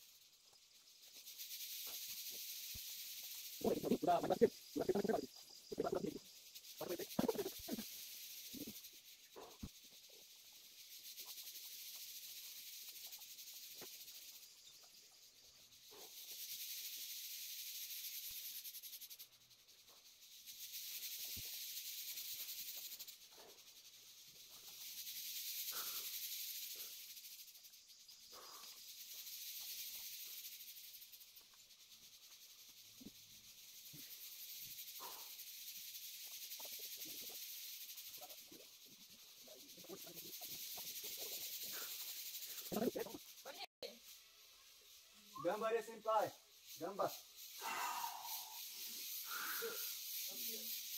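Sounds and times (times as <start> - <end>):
shrill insect chorus: 0.0 - 50.9.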